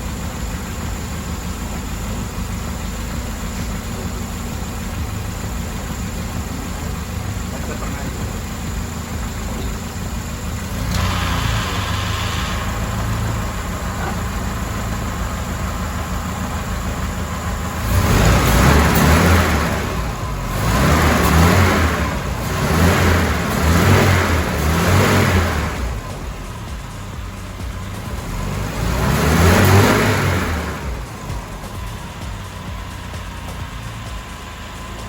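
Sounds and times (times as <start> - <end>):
car engine idling: 0.0 - 35.0
engine revving: 0.0 - 35.0.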